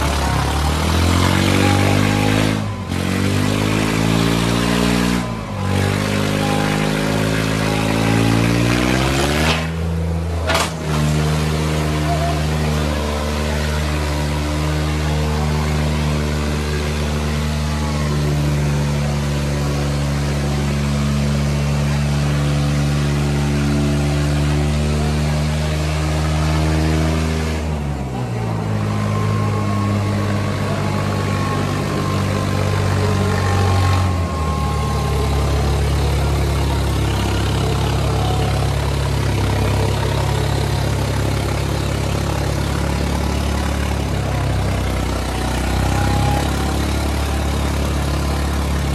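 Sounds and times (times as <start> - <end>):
tractor diesel engines under load: 0.0 - 48.9.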